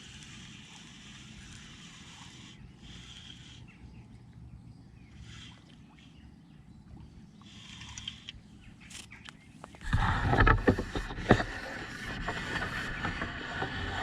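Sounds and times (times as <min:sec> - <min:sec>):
faint bird calls: 0:00.0 - 0:14.0.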